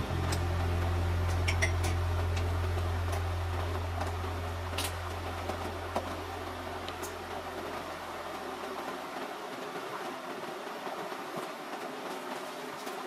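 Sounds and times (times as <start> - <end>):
low steady hum: 0.0 - 11.8
pasta water boiling: 0.0 - 13.0.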